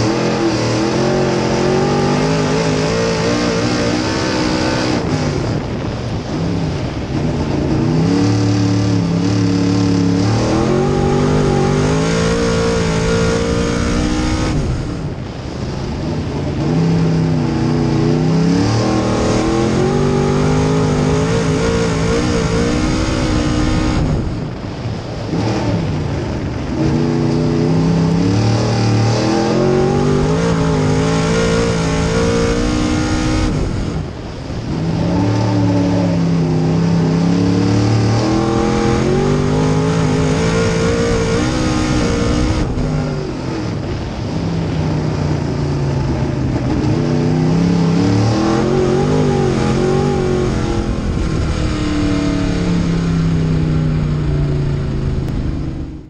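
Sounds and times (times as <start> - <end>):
race car engine revving: 0.0 - 24.6, 25.2 - 56.0.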